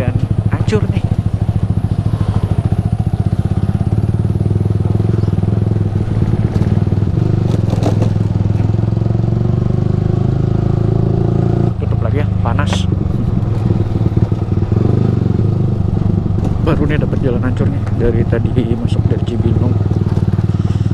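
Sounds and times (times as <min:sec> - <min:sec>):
motorcycle engine running: 0:00.0 - 0:20.9
light clatters from rough road: 0:00.2 - 0:09.1, 0:11.8 - 0:20.9.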